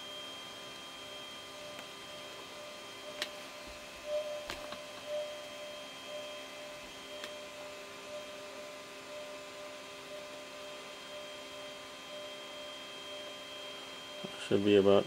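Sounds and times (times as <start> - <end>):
printer humming: 0.0 - 15.0
thin high tones: 0.0 - 15.0.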